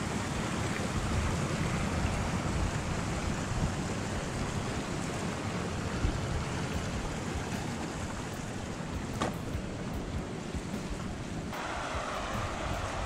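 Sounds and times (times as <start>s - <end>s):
river rushing over cascades: 0.0s - 13.0s.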